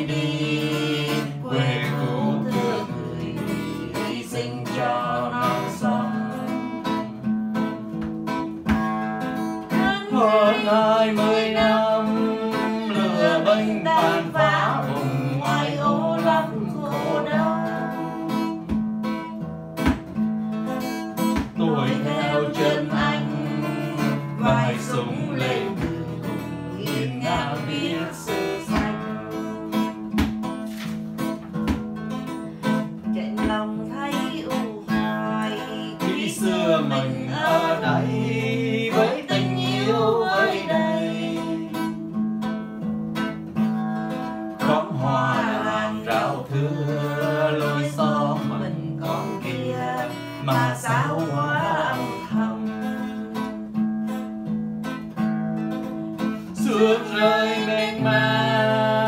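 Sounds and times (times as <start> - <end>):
person singing: 0.0 - 7.2, 8.7 - 18.8, 21.2 - 30.1, 32.6 - 42.1, 43.7 - 53.7, 56.2 - 59.0
acoustic guitar strumming: 0.0 - 59.0.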